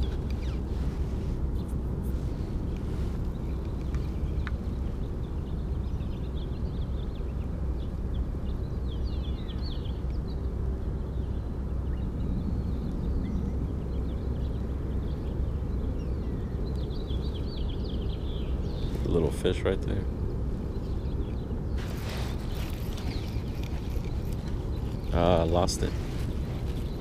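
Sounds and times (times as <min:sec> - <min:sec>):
low outdoor rumble: 0:00.0 - 0:27.0
small birds chirping: 0:00.0 - 0:27.0.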